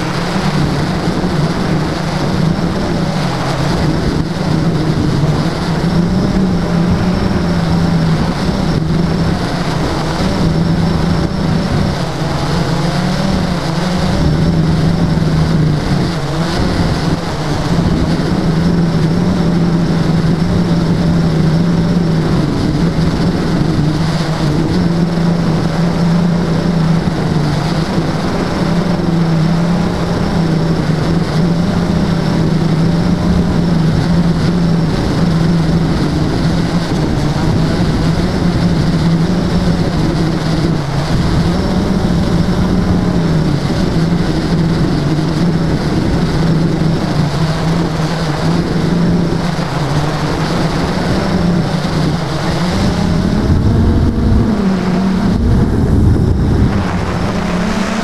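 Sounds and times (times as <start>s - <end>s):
drone motors humming: 0.0s - 58.0s
wind on microphone: 0.0s - 58.0s.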